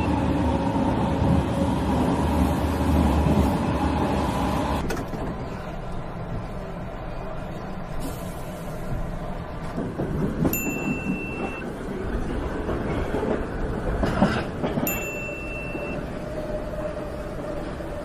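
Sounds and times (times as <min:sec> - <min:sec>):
subway train rumble and rattle: 0:00.0 - 0:18.0.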